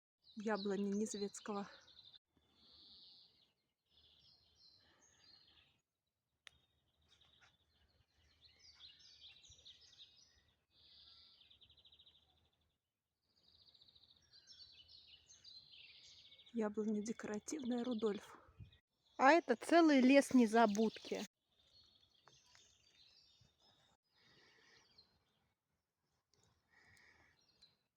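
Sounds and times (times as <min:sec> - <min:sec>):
faint songbirds singing: 0:00.2 - 0:05.8, 0:06.5 - 0:25.6, 0:26.3 - 0:27.9.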